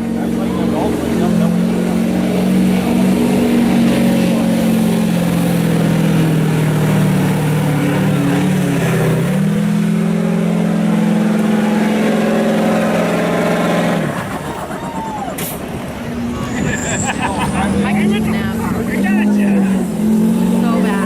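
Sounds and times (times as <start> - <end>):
pickup truck engine under load: 0.0 - 21.0.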